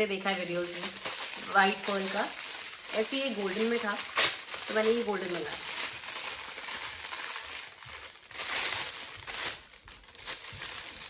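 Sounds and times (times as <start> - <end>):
packaging crinkling: 0.1 - 11.0.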